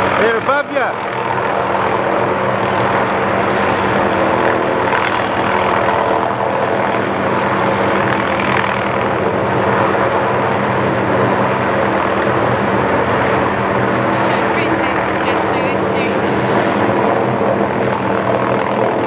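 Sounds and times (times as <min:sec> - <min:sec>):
helicopter overhead: 0:00.0 - 0:19.0.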